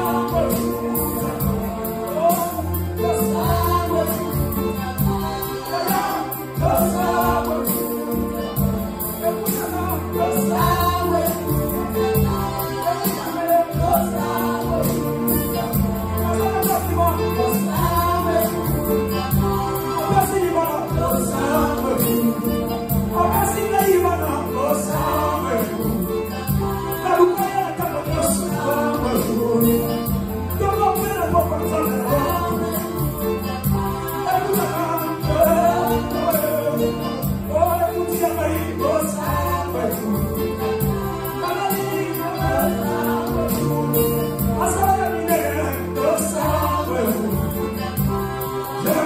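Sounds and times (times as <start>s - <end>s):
gospel singing with band: 0.0s - 49.0s.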